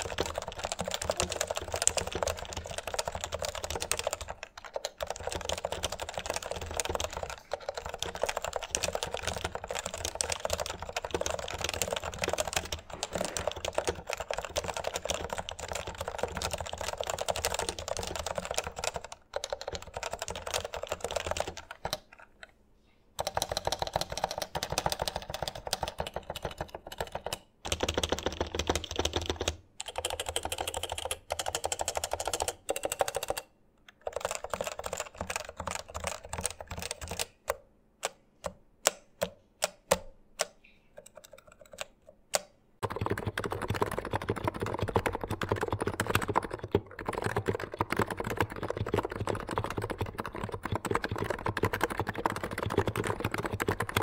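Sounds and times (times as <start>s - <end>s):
fast keyboard typing: 0.0s - 22.4s, 23.2s - 54.0s.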